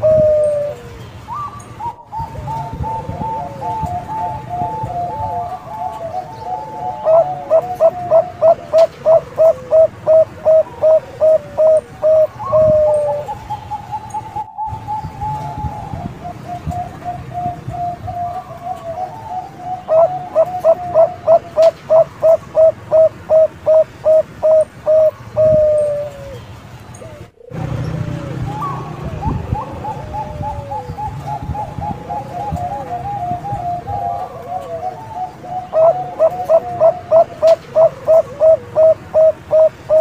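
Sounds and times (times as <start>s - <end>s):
dove cooing: 0.0s - 40.0s
soft rolling bird notes: 0.0s - 40.0s.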